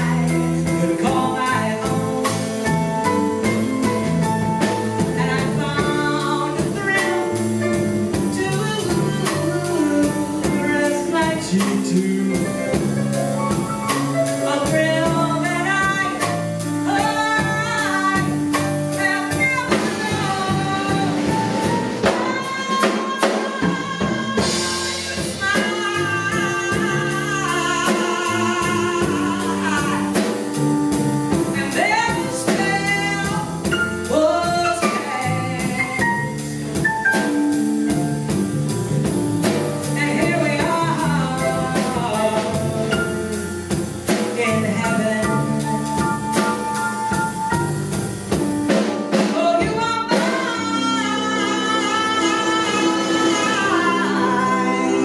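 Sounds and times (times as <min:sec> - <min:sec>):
electric bass guitar: 0:00.0 - 0:22.2, 0:24.1 - 0:48.8
woman singing: 0:00.0 - 0:37.3, 0:39.4 - 0:47.8, 0:49.1 - 0:55.0
drum kit cymbal beat: 0:00.0 - 0:55.0
grand piano: 0:00.0 - 0:55.0.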